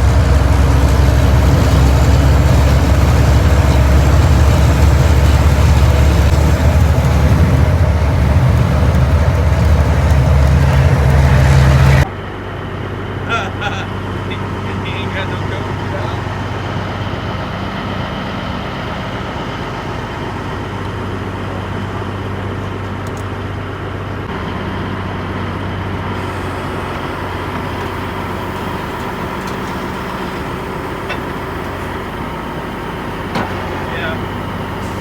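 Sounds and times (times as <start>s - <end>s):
road noise: 0.0s - 35.0s
vehicle engine hum: 0.0s - 35.0s.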